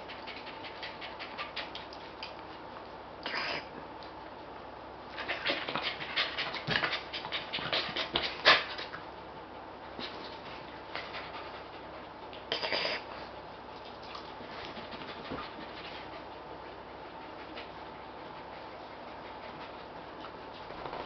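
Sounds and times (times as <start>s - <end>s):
dog panting: 0.0s - 2.7s, 5.1s - 9.0s, 9.8s - 12.5s, 13.2s - 21.0s.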